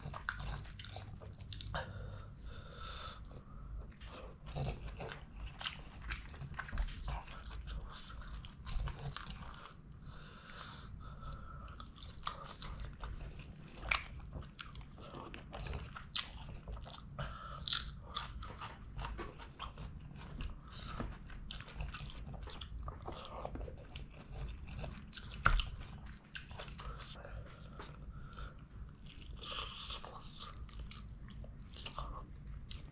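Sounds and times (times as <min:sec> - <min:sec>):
chewing with wet mouth smacks: 0:00.0 - 0:02.5, 0:03.2 - 0:32.9.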